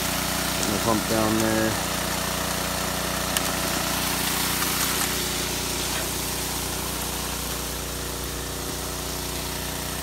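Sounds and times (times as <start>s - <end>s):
water pump engine running: 0.0s - 10.0s
water rushing: 0.0s - 10.0s.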